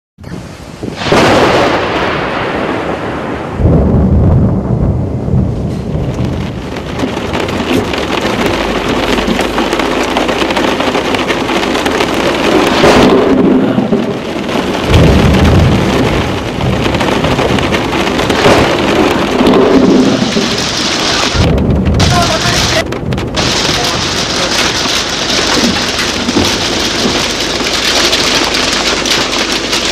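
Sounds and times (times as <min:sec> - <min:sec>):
thunder rumbling: 0:00.2 - 0:29.9
heavy rain and hail: 0:00.4 - 0:29.9.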